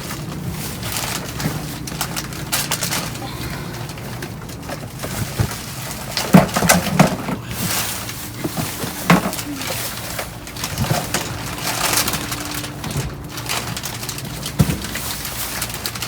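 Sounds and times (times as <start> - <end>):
boxes knocked and crumpled: 0.0 - 16.0.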